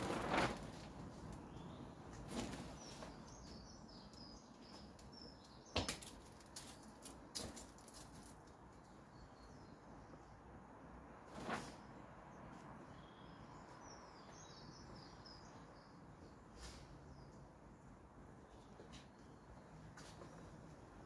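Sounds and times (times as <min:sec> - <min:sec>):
small birds chirping: 0:01.1 - 0:10.5, 0:11.7 - 0:21.0.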